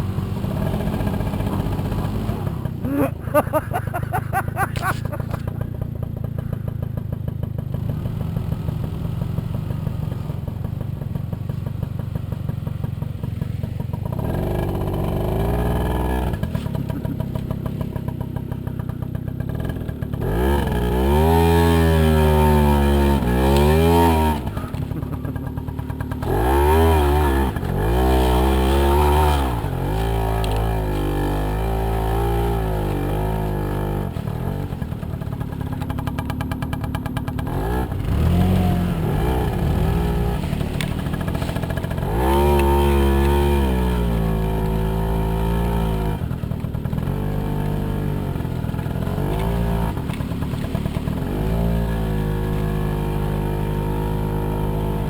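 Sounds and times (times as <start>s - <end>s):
moped engine revving: 0.0s - 55.0s.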